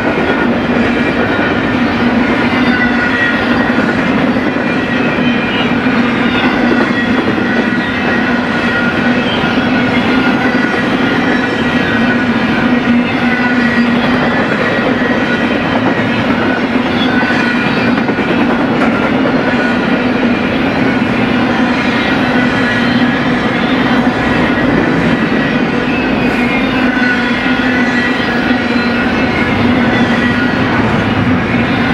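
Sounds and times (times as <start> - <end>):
train wheels on rail: 0.0 - 31.9.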